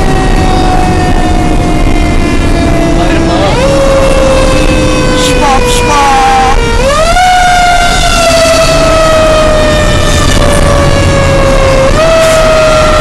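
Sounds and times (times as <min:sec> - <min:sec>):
engine and road rumble: 0:00.0 - 0:13.0
fire engine siren: 0:00.0 - 0:13.0.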